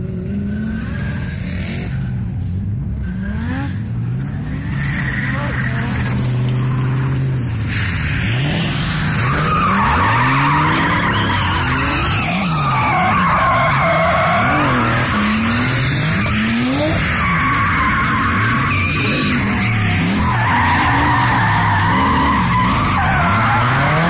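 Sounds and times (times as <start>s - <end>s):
car engine revving: 0.0s - 24.0s
tyres squealing: 4.6s - 24.0s.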